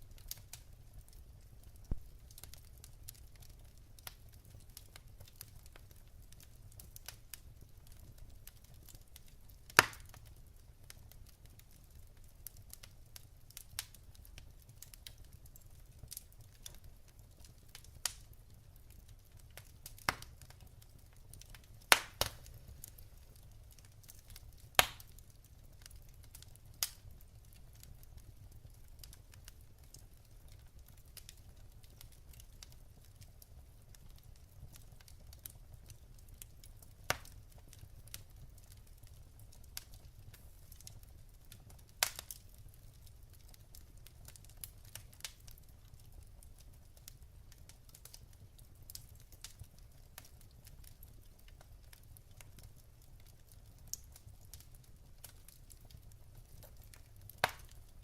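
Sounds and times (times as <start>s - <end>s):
wood fire crackling: 0.0s - 58.0s
sharp pops from burning logs: 0.2s - 58.0s.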